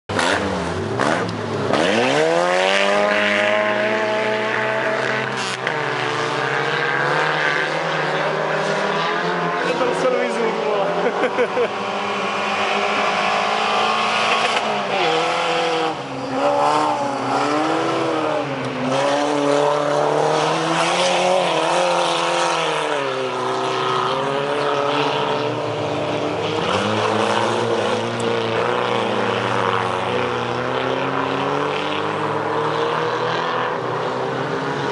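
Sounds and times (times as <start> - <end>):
race car engines revving: 0.1 - 34.9.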